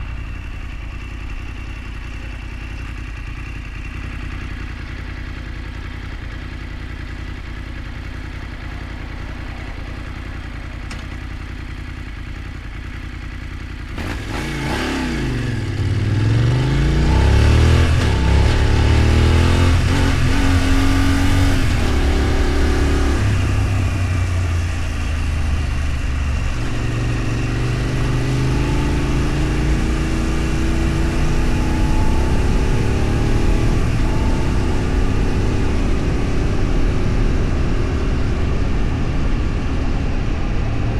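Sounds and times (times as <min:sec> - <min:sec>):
vehicle engine revving: 0:06.0 - 0:13.0, 0:13.9 - 0:40.9.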